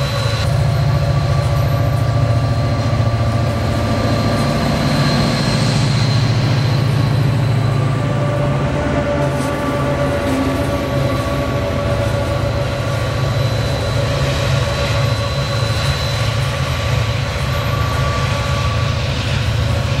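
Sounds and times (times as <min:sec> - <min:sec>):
model train engine rumble: 0:00.0 - 0:20.0
whining tones: 0:00.0 - 0:20.0.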